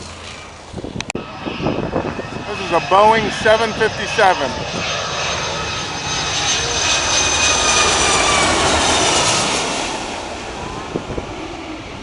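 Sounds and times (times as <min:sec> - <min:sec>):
jet plane passing overhead: 0:00.0 - 0:12.0.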